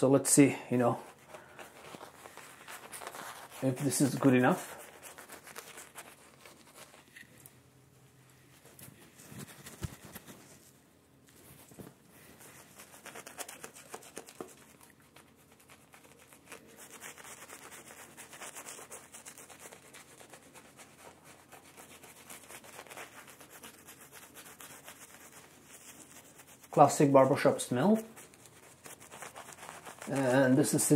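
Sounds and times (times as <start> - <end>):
shaving brush scrubbing lather: 0.8 - 7.2, 12.4 - 30.9.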